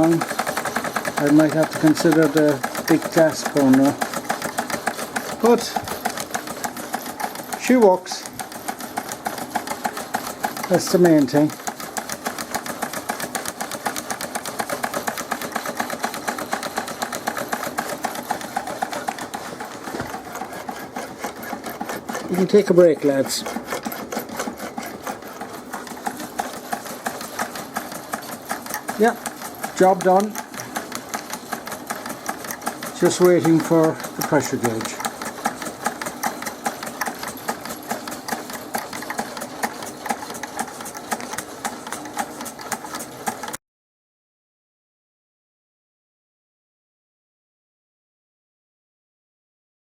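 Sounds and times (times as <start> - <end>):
toy steam engine ticking over: 0.0 - 43.6.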